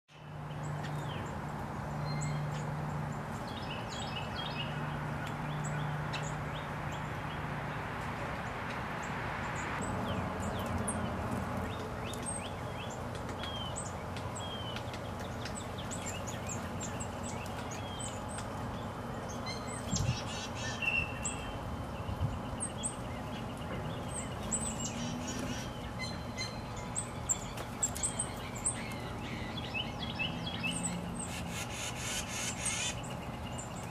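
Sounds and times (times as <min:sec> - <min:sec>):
birds chirping: 0:00.1 - 0:33.9
steady background hum: 0:00.2 - 0:33.9.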